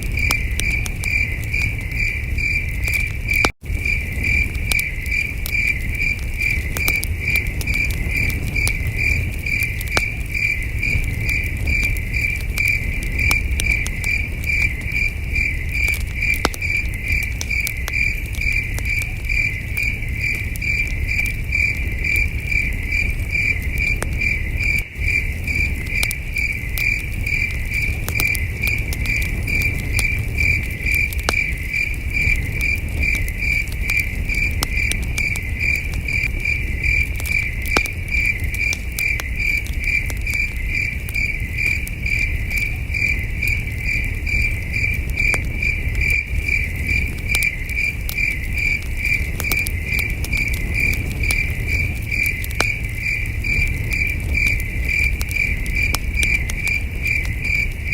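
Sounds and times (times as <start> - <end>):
campfire crackling: 0.0 - 57.9
crickets chirping: 0.0 - 57.9.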